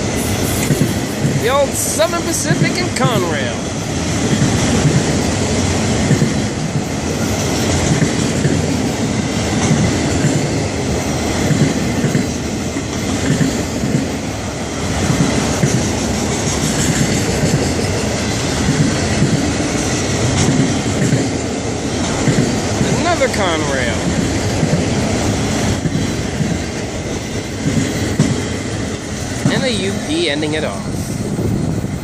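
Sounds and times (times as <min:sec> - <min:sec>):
train wheels clattering on rails: 0:00.0 - 0:32.0.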